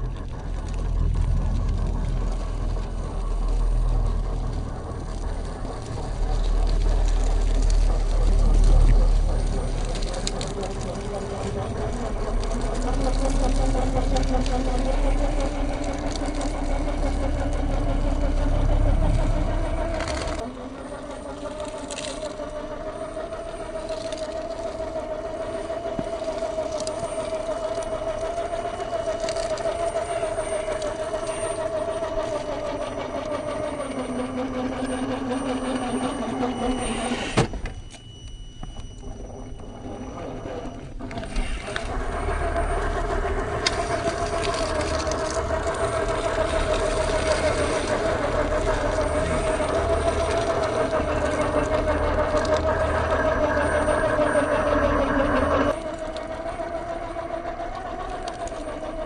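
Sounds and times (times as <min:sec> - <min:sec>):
toy truck motor whine: 0:06.0 - 0:59.0.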